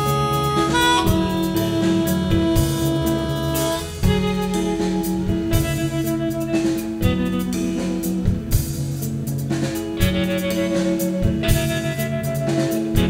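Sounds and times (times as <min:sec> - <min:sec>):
band playing: 0:00.0 - 0:13.0
drum hits: 0:00.0 - 0:13.0.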